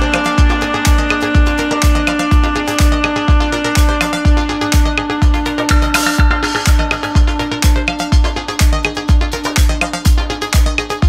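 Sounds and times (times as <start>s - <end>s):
dance music with heavy kick drum: 0.0s - 11.0s.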